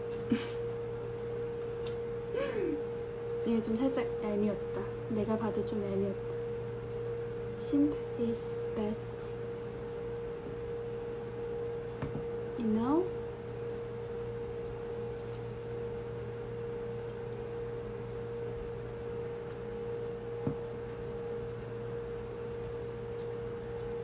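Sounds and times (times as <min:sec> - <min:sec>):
steady single-pitched hum: 0:00.0 - 0:24.0.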